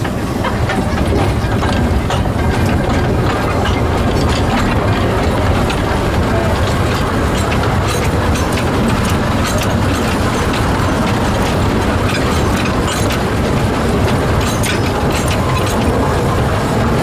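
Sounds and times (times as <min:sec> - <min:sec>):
steam locomotive running: 0:00.0 - 0:17.0.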